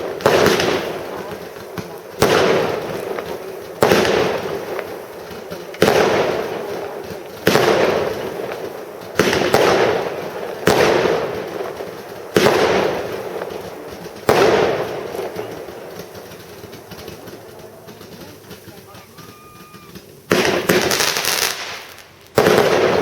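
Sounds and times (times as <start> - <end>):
fireworks bangs with rumbling echo: 0.0 - 23.0.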